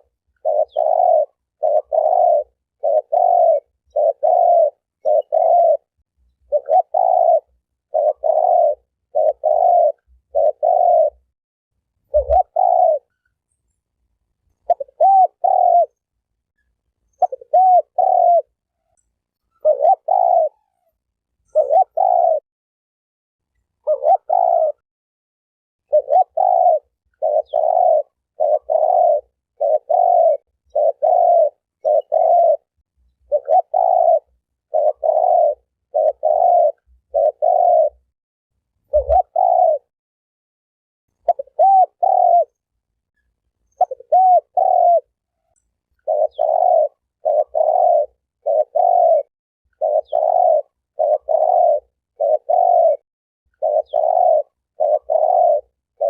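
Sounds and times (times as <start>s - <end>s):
dove cooing: 0.0s - 11.3s, 12.0s - 13.2s, 14.6s - 16.1s, 17.1s - 22.4s, 23.8s - 24.8s, 25.8s - 38.1s, 38.9s - 39.9s, 41.2s - 42.7s, 43.7s - 56.0s.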